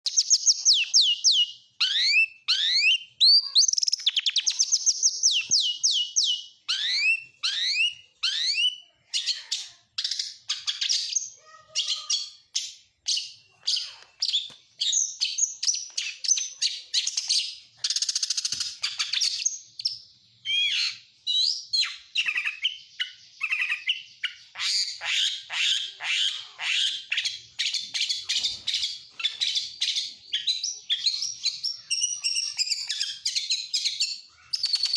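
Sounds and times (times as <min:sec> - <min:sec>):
bird singing whistles and trills: 0:00.1 - 0:34.9.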